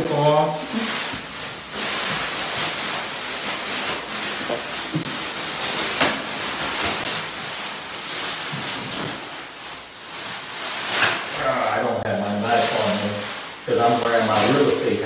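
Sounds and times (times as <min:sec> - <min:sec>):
plastic sheeting crinkling: 0:00.0 - 0:15.0.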